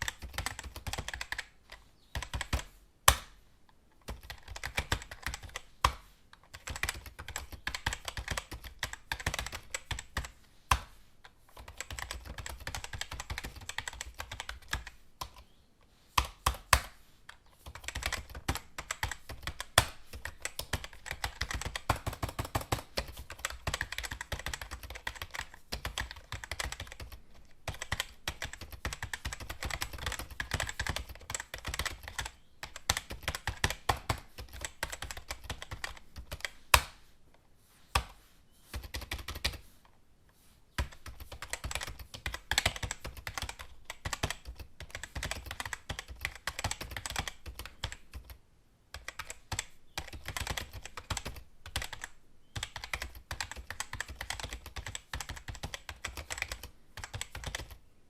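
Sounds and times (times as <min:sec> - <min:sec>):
keyboard typing: 0:00.0 - 0:03.2, 0:04.0 - 0:10.9, 0:11.5 - 0:15.5, 0:16.2 - 0:37.0, 0:38.0 - 0:39.6, 0:40.8 - 0:57.8.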